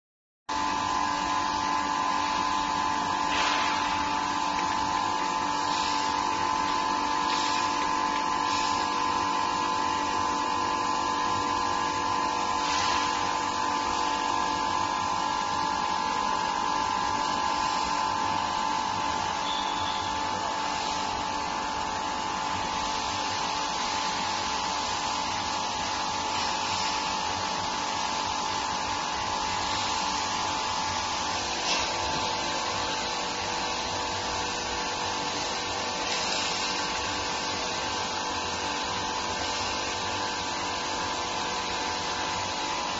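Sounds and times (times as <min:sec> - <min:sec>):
furnace high-pitched whine: 0:00.5 - 0:42.9.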